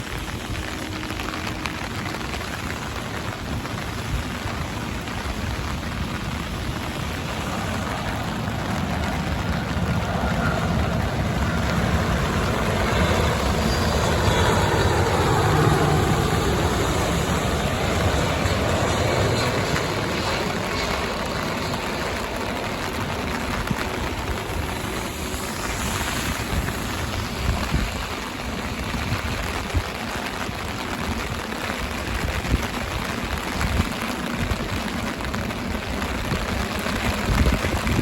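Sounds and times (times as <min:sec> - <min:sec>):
heavy rain hissing: 0:00.0 - 0:38.0
jet engine noise: 0:00.0 - 0:38.0.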